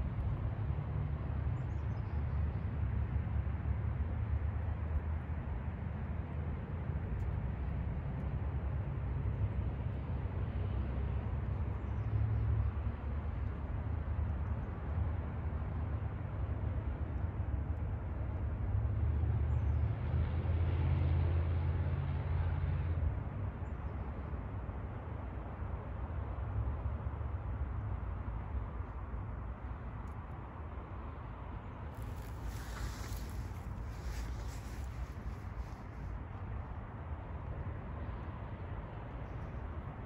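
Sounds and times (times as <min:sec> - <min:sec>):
low outdoor rumble: 0:00.0 - 0:40.0.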